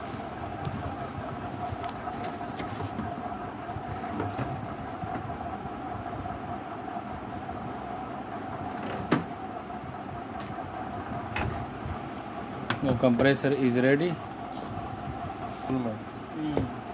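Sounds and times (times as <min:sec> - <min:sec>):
mechanical hum: 0:00.0 - 0:16.9.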